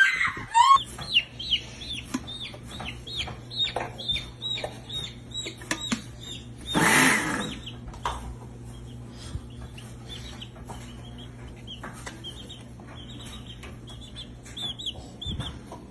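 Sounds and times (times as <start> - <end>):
chick peeping: 0.0 - 15.9.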